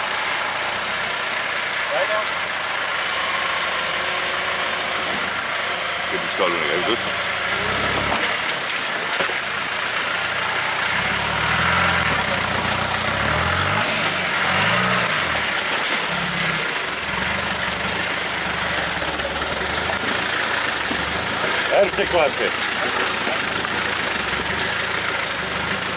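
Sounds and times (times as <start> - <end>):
off-road vehicle engine crawling: 0.0 - 25.9.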